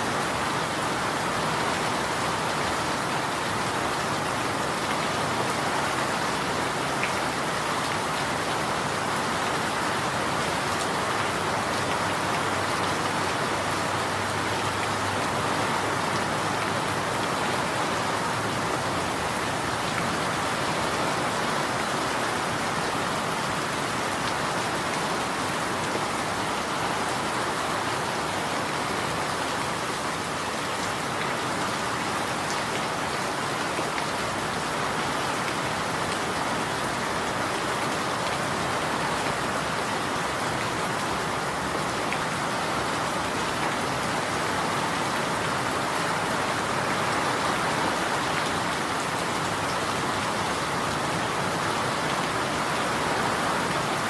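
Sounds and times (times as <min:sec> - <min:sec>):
rain pattering on surfaces: 0:00.1 - 0:54.0.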